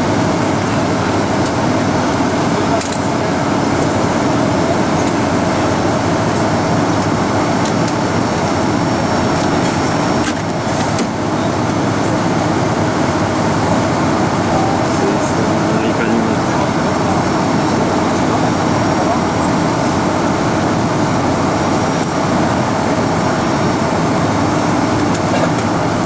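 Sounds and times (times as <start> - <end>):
airplane engines and airflow rushing: 0.0 - 26.0.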